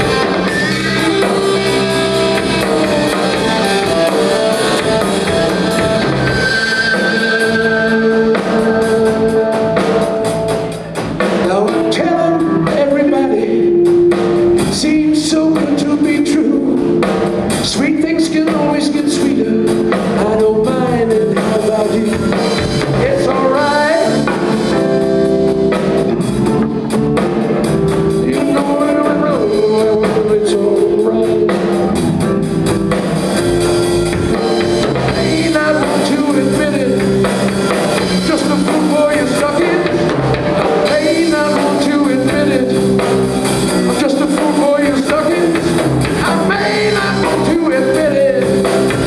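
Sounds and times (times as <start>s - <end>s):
blues-rock band playing: 0.0s - 49.0s
sliding lead guitar melody: 0.0s - 49.0s.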